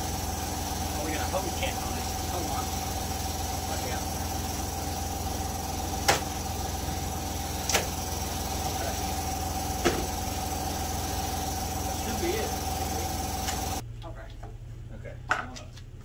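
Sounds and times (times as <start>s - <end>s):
steady low hum: 0.0s - 15.3s.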